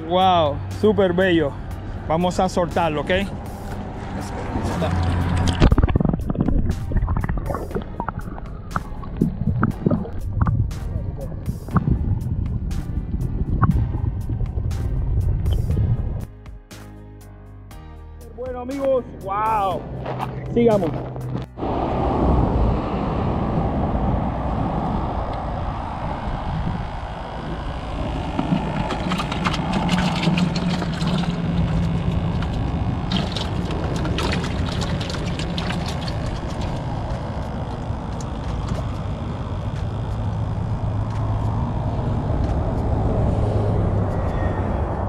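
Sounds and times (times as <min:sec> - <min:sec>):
highway traffic hum: 0:00.0 - 0:16.2, 0:19.0 - 0:45.0.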